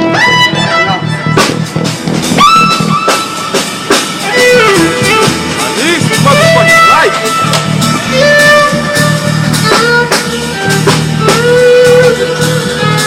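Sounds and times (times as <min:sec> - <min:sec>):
bass line: 0:00.0 - 0:13.0
drum kit strikes: 0:00.0 - 0:13.0
lead instrument bending notes: 0:00.0 - 0:13.0.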